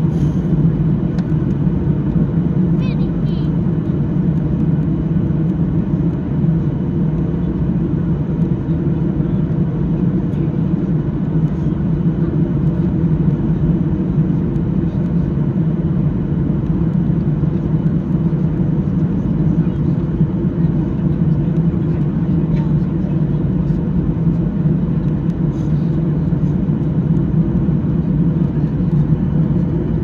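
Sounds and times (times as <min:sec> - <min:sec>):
airliner cabin rumble: 0:00.0 - 0:30.0.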